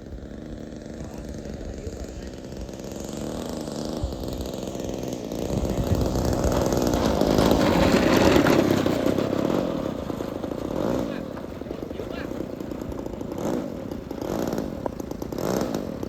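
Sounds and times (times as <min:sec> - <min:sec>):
model plane engine running: 0:00.0 - 0:16.0.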